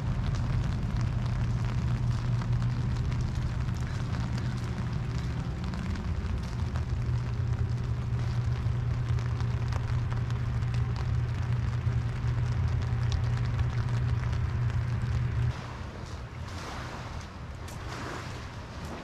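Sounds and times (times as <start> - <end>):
low steady rumble: 0.0 - 19.0
steady rain: 0.0 - 19.0.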